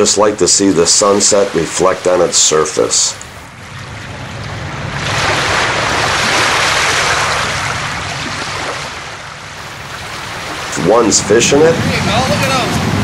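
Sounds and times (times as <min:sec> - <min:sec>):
lake waves washing: 0:00.0 - 0:13.0
low steady rumble: 0:00.0 - 0:13.0.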